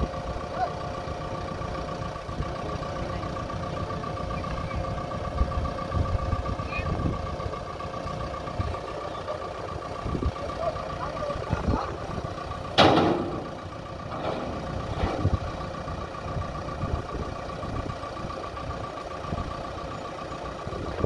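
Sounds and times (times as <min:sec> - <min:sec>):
diesel engine idling: 0:00.0 - 0:21.0
steady whine: 0:00.0 - 0:21.0.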